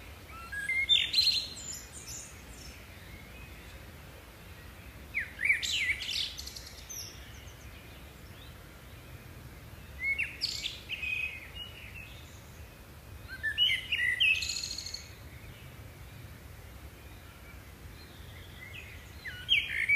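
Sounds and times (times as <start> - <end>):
faint steady background noise: 0.0 - 19.9
songbirds chirping: 0.0 - 19.9.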